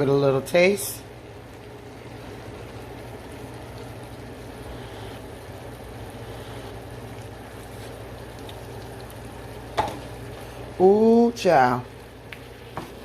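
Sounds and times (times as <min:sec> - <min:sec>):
steady low hum: 0:00.0 - 0:13.0
sauce simmering in a pot: 0:00.1 - 0:13.0.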